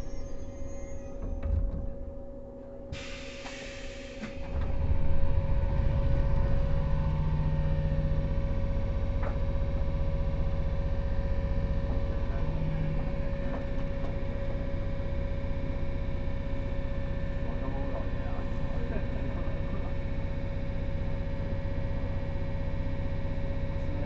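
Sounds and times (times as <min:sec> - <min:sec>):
electric train motor rumble: 0:00.0 - 0:24.0.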